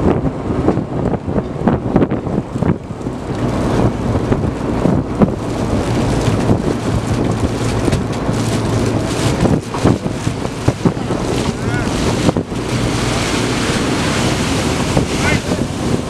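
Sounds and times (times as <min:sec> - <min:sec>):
boat machinery humming: 0:00.0 - 0:16.0
sea noise: 0:00.0 - 0:16.0
wind buffeting microphone: 0:00.0 - 0:16.0.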